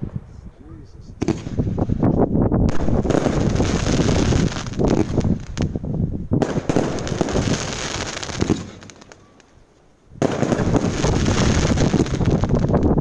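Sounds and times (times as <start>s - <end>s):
fireworks bangs and crackles: 1.1s - 13.0s.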